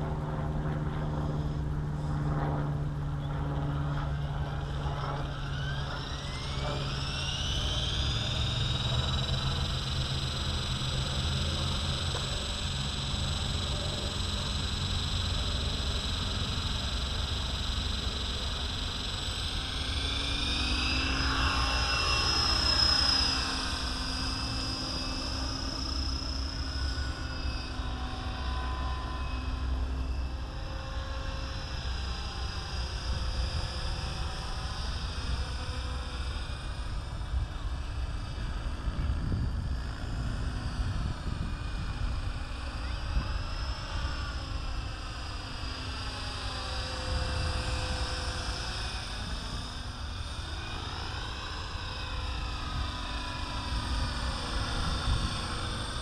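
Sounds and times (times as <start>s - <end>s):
model helicopter rotor whine: 0.0s - 56.0s.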